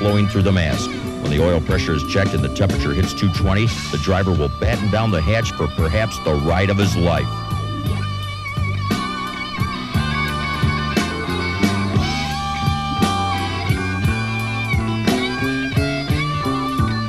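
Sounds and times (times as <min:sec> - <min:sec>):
bass: 0:00.0 - 0:17.0
electric guitar lead: 0:00.0 - 0:17.0
steady drum beat: 0:00.0 - 0:17.0.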